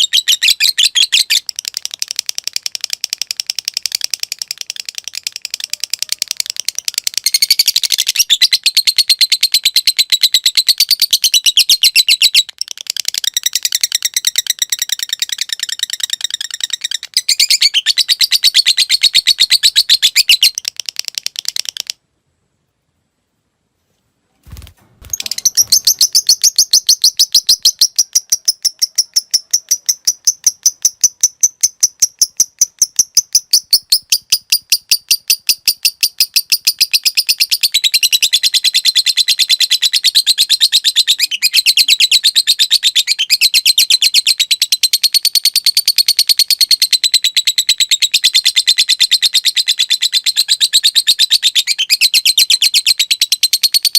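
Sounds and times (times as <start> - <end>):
lovebird chattering: 0.0 - 22.0, 25.0 - 53.9.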